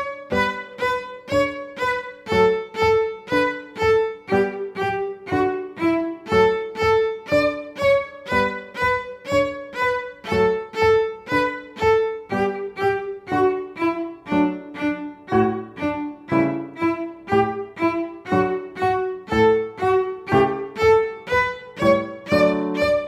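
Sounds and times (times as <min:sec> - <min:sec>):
cello bowed notes: 0:00.0 - 0:23.0.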